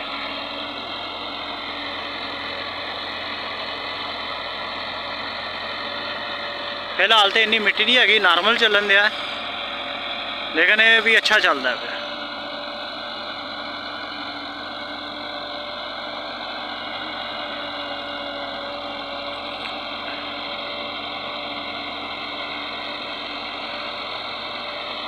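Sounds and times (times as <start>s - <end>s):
diesel tractor engine running: 0.0s - 25.0s.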